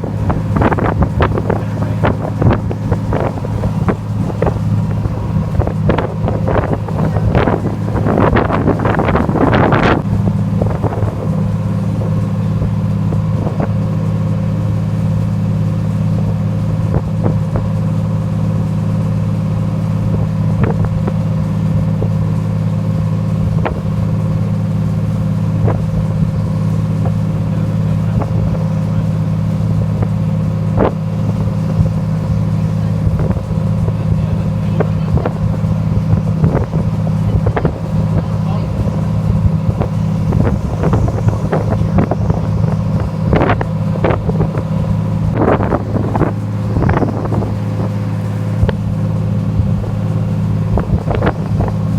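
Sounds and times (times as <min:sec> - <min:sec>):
wind noise: 0:00.0 - 0:18.5, 0:19.5 - 0:51.9
boat engine droning: 0:00.0 - 0:51.9.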